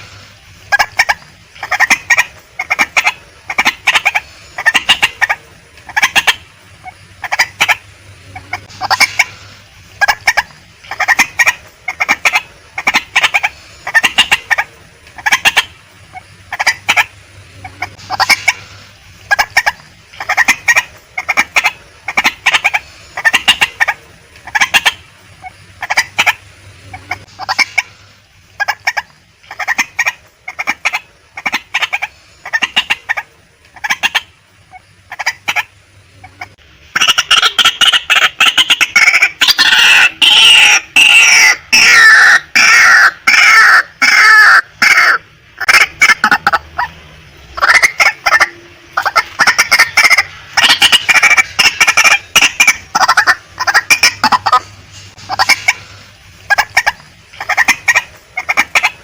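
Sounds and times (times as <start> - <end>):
waterhen harsh clucking calls: 0.0 - 59.0.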